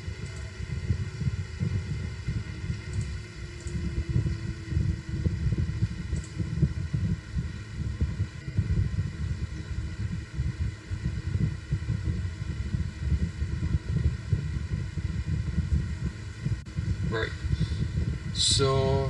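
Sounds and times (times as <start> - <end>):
faint steady hum: 0.0 - 19.0
low uneven rumbling: 0.0 - 19.0.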